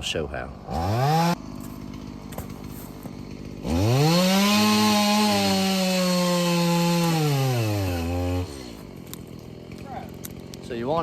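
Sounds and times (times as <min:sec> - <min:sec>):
chainsaw revving and cutting: 0:00.6 - 0:11.0.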